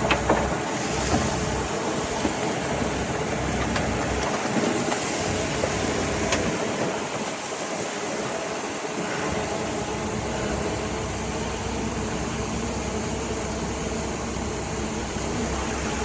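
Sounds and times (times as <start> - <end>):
earthmoving machinery running: 0.0 - 16.0.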